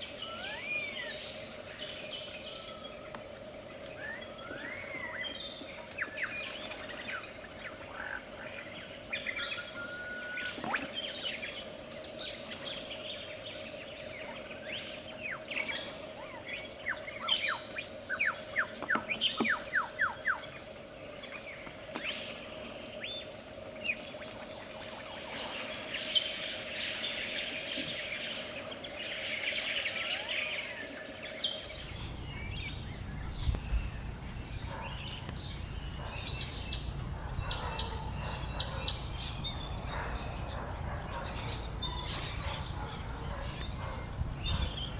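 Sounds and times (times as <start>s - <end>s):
lyrebird singing: 0.0s - 3.2s, 3.8s - 44.9s.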